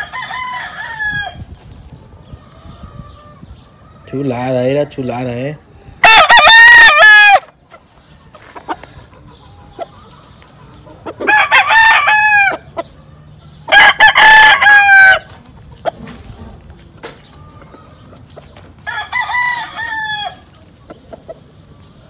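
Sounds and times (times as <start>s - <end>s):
roosters crowing: 0.0s - 4.6s, 5.9s - 7.7s, 8.4s - 22.0s.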